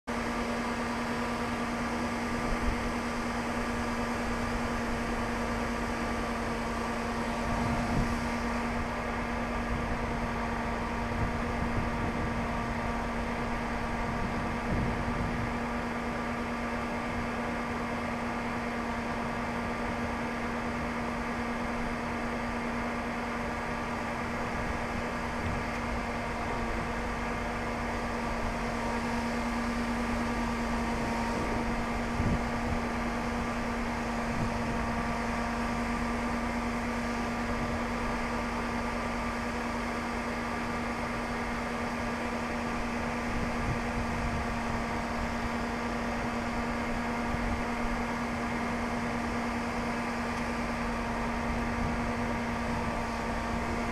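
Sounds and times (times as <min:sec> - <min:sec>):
mechanical hum: 0:00.1 - 0:53.9.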